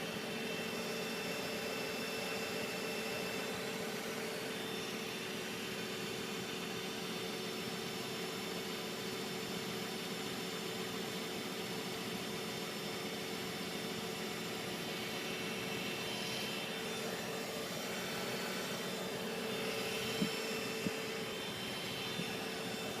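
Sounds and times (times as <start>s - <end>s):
steady whining hum: 0.0s - 23.0s.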